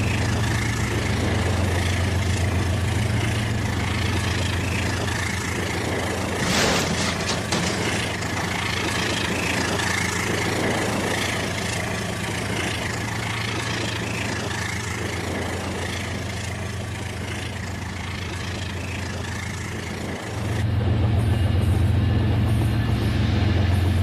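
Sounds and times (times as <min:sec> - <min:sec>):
wheels rattling on track: 0:00.0 - 0:24.0.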